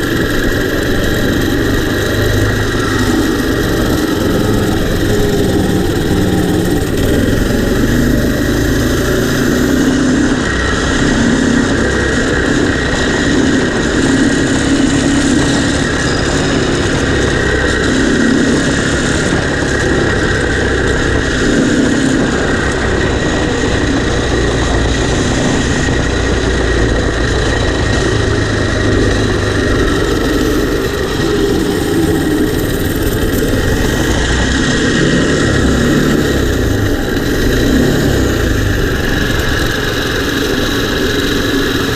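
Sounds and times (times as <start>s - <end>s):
go kart engine running: 0.0s - 41.9s.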